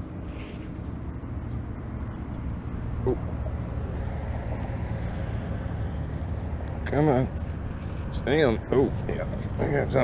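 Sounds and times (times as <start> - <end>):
engine humming steadily: 0.0 - 10.0.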